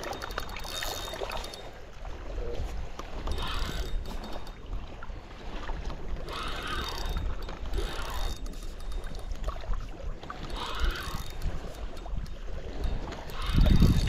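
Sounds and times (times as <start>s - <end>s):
waves lapping against shore: 0.0s - 14.0s
wind buffeting microphone: 2.0s - 14.0s.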